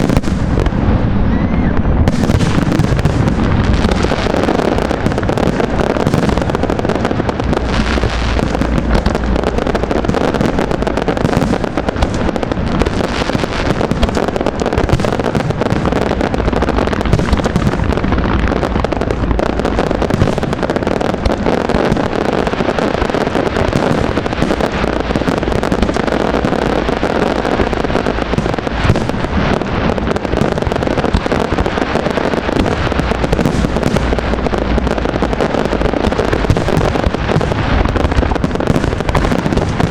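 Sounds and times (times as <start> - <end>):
fireworks bursts and crackles: 0.0 - 39.9.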